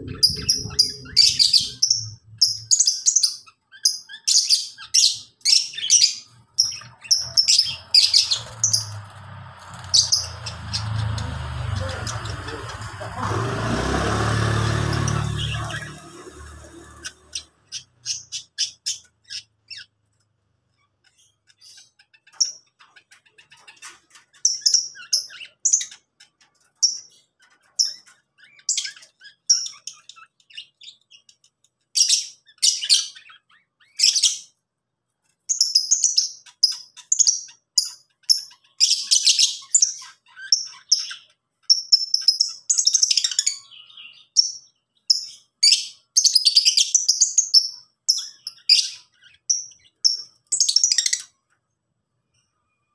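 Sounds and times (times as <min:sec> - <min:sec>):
lovebirds chirping: 0:00.0 - 0:34.6, 0:35.3 - 0:52.9.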